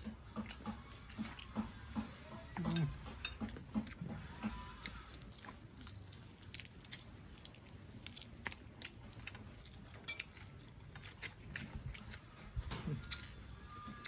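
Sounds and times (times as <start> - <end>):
chewing with crisp crunches: 0.0 - 14.0.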